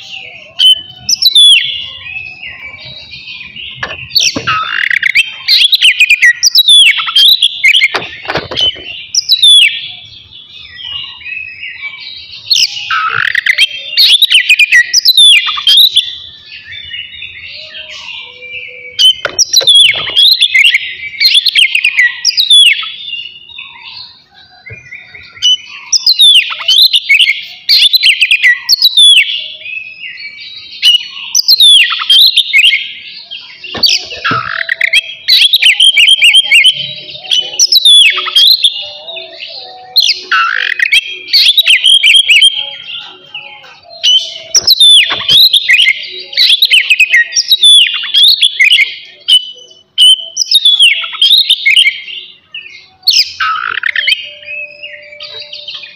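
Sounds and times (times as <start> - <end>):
bird singing whistles: 0.0 - 39.0, 39.7 - 52.2, 52.8 - 55.9.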